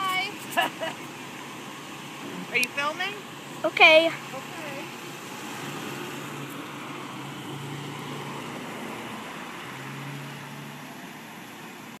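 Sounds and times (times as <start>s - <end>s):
pickup truck driving away: 0.0s - 12.0s.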